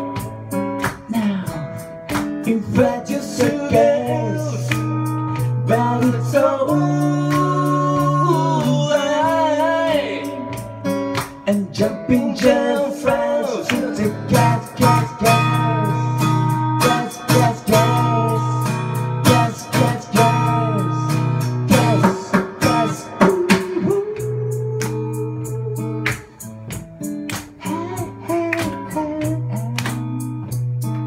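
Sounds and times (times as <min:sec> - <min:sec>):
acoustic guitar strumming: 0:00.0 - 0:31.0
person singing: 0:01.1 - 0:05.0, 0:05.6 - 0:10.7, 0:11.4 - 0:26.4, 0:27.6 - 0:30.5.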